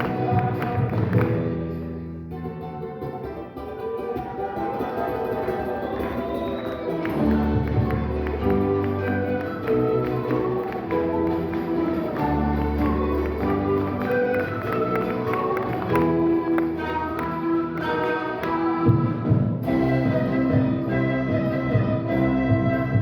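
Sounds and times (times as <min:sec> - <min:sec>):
andean instrumental ensemble music: 0:00.0 - 0:23.0.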